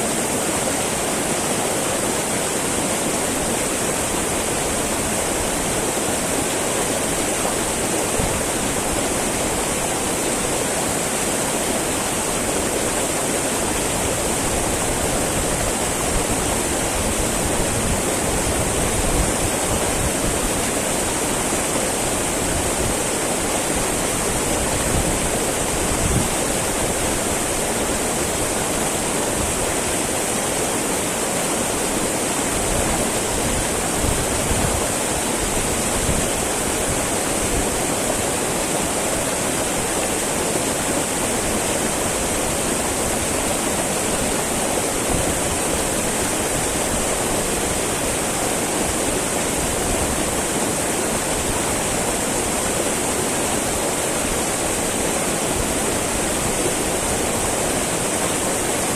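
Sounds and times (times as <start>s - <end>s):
river babbling over rocks: 0.0s - 58.9s.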